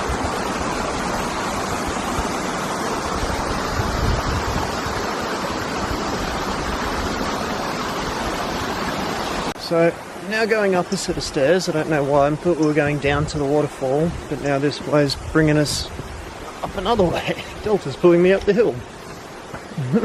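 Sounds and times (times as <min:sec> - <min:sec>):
wind buffeting microphone: 0:00.0 - 0:08.8, 0:11.1 - 0:19.7.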